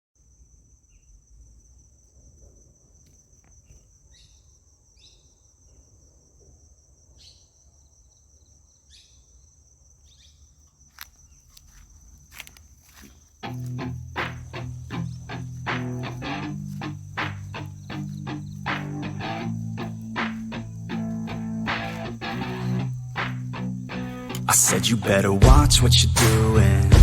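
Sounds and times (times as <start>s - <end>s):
insects trilling: 0.2s - 27.0s.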